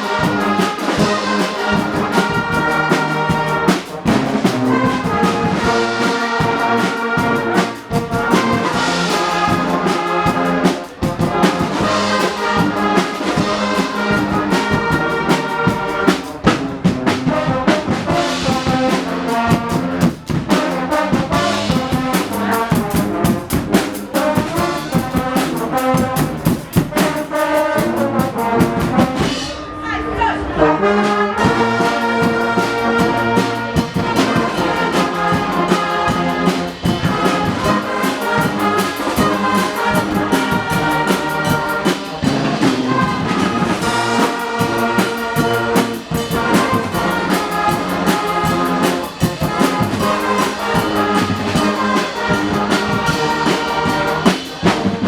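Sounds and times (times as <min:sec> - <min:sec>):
steady drum beat: 0:00.0 - 0:29.6, 0:31.4 - 0:55.0
brass section playing: 0:00.0 - 0:55.0.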